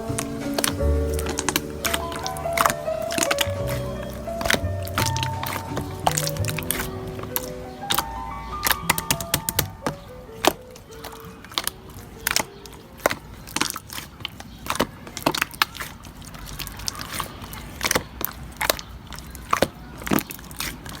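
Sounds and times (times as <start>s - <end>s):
slime squishing with clicks: 0.0s - 21.0s.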